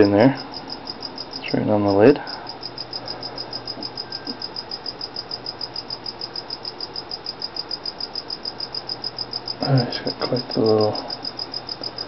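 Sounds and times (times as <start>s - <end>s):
cricket chirping: 0.0s - 12.0s
faint low hum: 0.0s - 12.0s.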